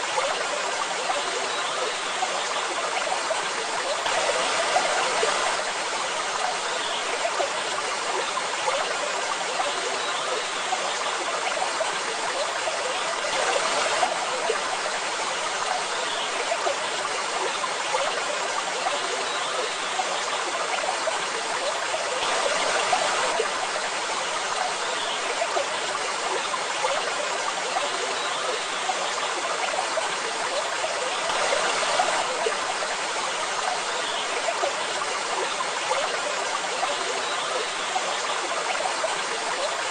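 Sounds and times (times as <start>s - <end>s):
waterfall rushing and splashing: 0.0s - 9.6s, 10.3s - 39.9s.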